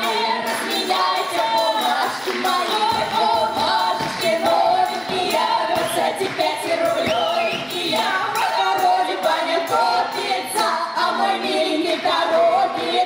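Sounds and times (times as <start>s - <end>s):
tambourine jingles: 0.0s - 10.7s
women singing folk song: 0.0s - 13.0s.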